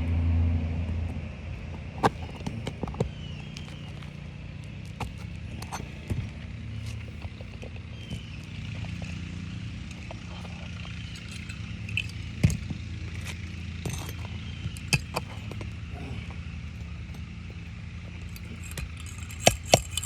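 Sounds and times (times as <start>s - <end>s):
steady low hum: 0.0s - 20.0s
pry bar clicking and scraping: 1.5s - 20.0s.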